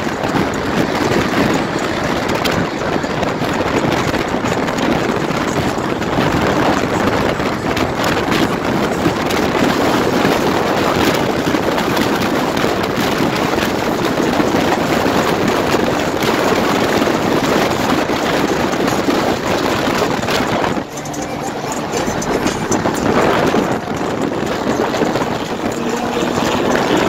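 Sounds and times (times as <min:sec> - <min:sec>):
car running at speed: 0:00.0 - 0:27.0
wind rushing over microphone: 0:00.0 - 0:27.0.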